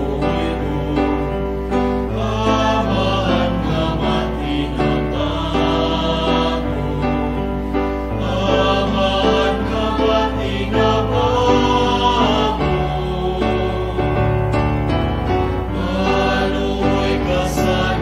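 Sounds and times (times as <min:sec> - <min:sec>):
choir singing a hymn: 0:00.0 - 0:18.0.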